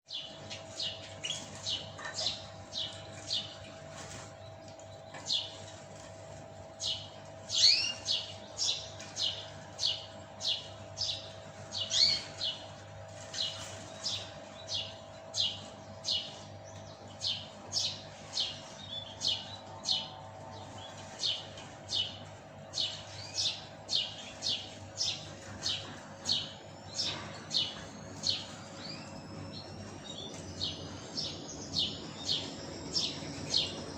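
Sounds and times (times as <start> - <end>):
canary chirping: 0.1 - 4.2, 6.8 - 33.9.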